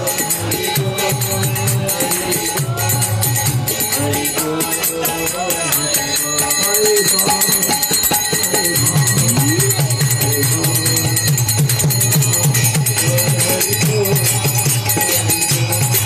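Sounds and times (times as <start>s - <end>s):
jingling hand percussion: 0.0s - 16.0s
voices singing: 0.0s - 16.0s.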